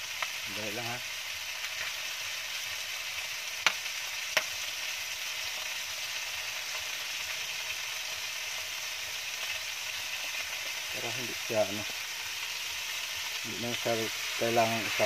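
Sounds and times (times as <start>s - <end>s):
chicken sizzling in a grill pan: 0.0s - 15.0s.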